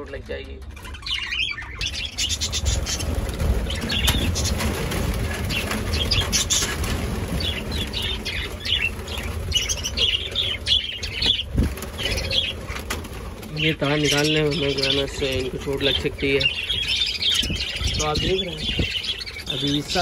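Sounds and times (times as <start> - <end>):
wings flapping: 0.6 - 20.0
budgerigars chirping: 0.7 - 20.0.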